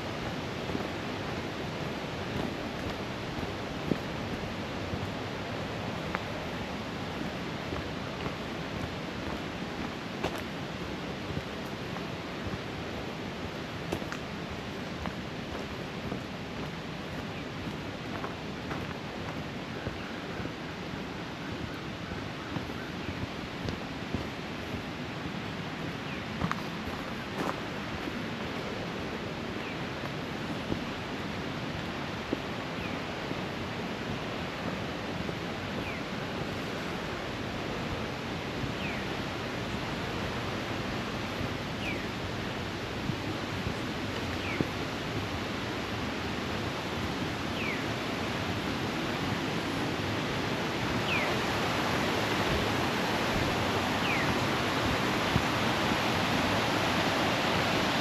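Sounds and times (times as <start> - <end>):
creek rushing over rocks: 0.0 - 58.0.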